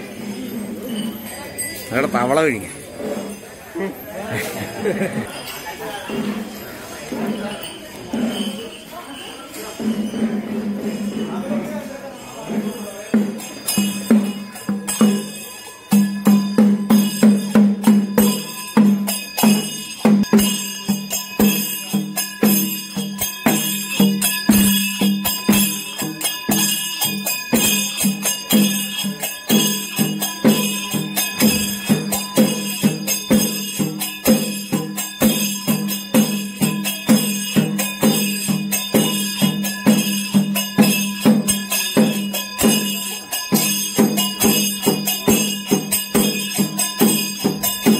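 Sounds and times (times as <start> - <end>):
metal cymbals ringing: 0.0 - 47.9
temple drums beaten rhythmically: 6.0 - 47.9.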